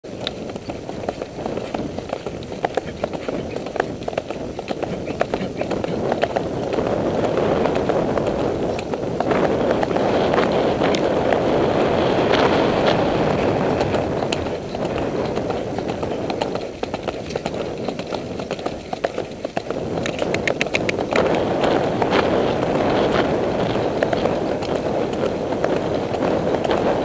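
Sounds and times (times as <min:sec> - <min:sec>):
horse hoofbeats galloping: 0:00.0 - 0:27.0
wind on microphone: 0:00.0 - 0:27.0.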